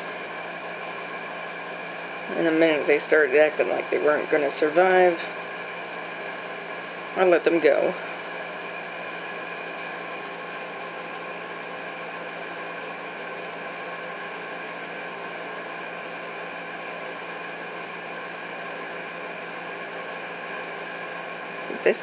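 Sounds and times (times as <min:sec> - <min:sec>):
machine hum with held tones: 0:00.0 - 0:22.0.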